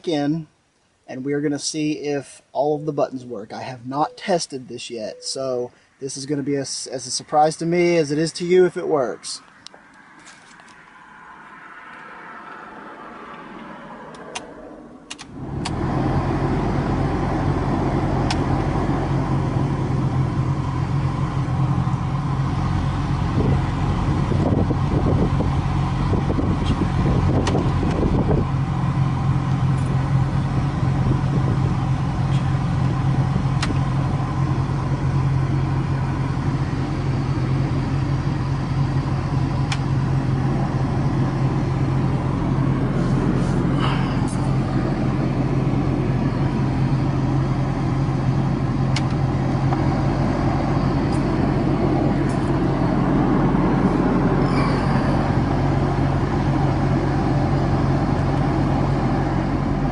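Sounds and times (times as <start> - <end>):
car engine and blower hum: 5.1 - 59.9.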